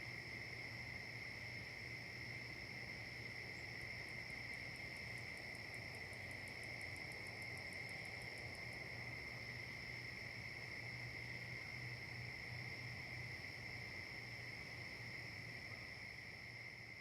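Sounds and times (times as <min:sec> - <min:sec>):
high ticking insect call: 0:00.0 - 0:17.0
insect chorus: 0:00.0 - 0:17.0.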